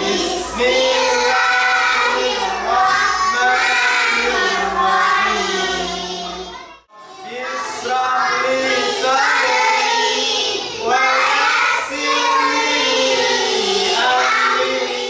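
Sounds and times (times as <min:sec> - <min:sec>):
children chanting a prayer: 0:00.0 - 0:15.0.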